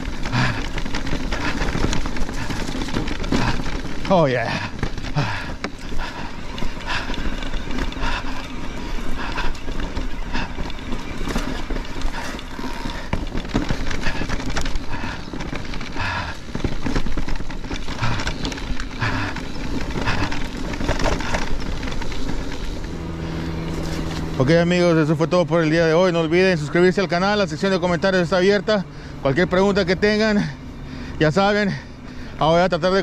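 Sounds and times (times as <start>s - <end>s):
mountain bike clattering on trail: 0.0s - 33.0s.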